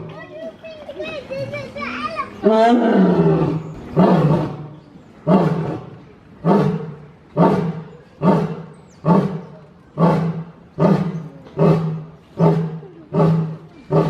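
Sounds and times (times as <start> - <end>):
lion roaring in grunts: 2.4 - 14.0.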